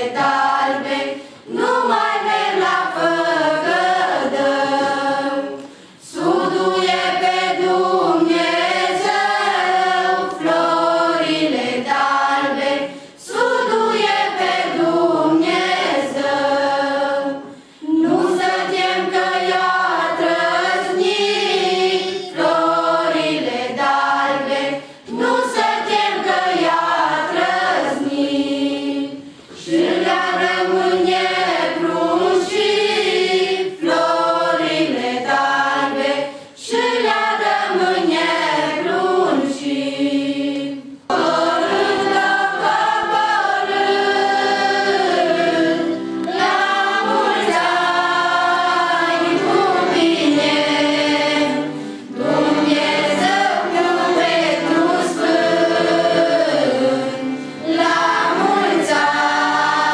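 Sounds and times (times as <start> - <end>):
women and girls singing: 0.0 - 59.9.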